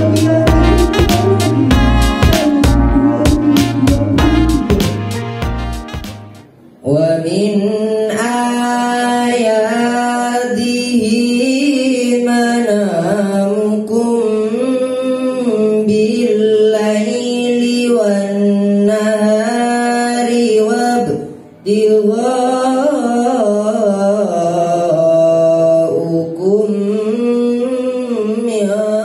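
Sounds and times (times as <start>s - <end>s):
person chanting melodic recitation: 0.0s - 29.0s.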